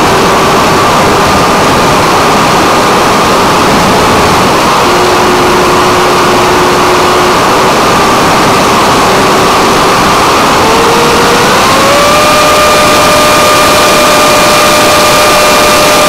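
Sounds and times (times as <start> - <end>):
electric motor and propeller whine: 0.0 - 16.0
loud rushing air: 0.0 - 16.0.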